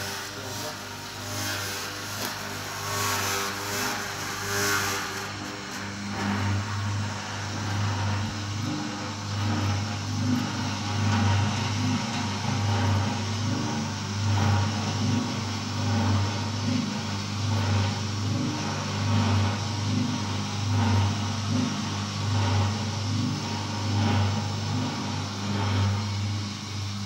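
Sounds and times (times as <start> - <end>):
electric motor humming: 0.0 - 27.0.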